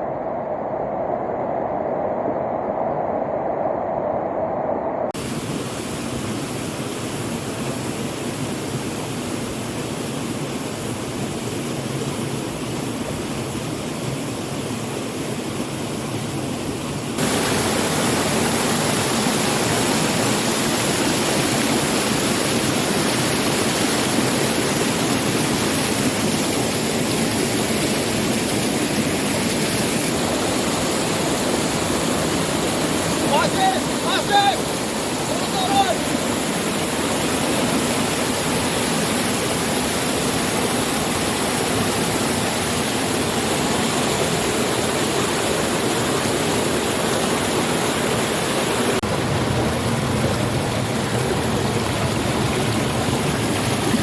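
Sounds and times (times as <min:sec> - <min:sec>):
waterfall rushing: 0:05.2 - 0:14.2, 0:17.2 - 0:54.0.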